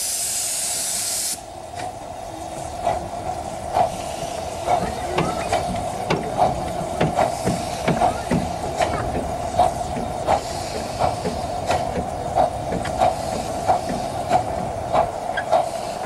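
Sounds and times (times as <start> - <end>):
steam locomotive hissing: 0.0 - 16.0
train wheels knocking and clicking: 2.6 - 16.0.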